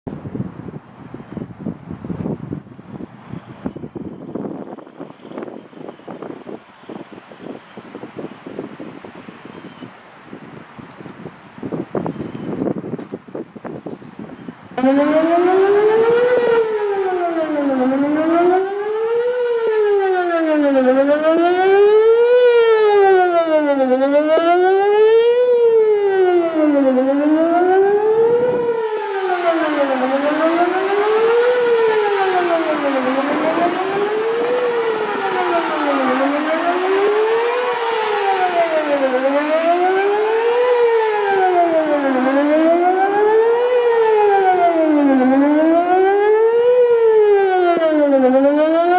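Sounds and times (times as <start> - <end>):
outdoor warning siren wailing: 3.3 - 48.9.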